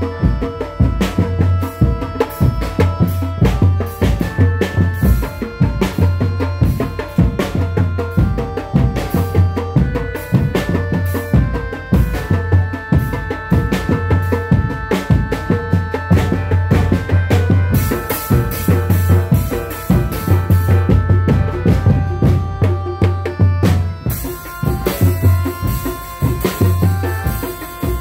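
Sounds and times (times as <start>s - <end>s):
held melody notes: 0.0s - 28.0s
steady drum beat: 0.0s - 28.0s.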